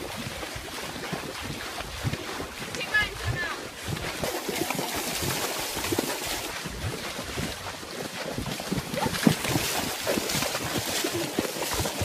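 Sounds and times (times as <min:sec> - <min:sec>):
horses splashing through water: 0:00.0 - 0:12.0.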